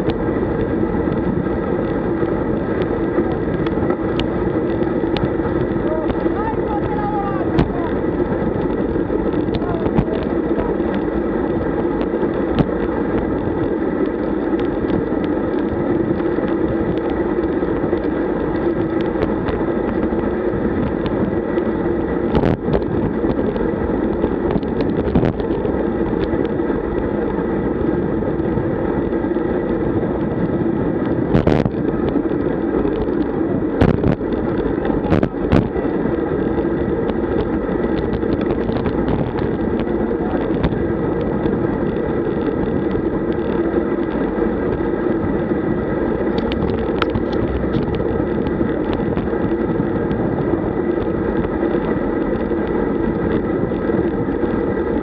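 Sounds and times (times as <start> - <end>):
bicycle road noise: 0.0 - 55.0
wind rush: 0.0 - 55.0.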